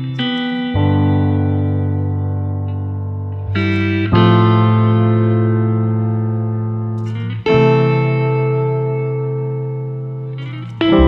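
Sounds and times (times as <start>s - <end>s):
background music chords: 0.0s - 11.0s.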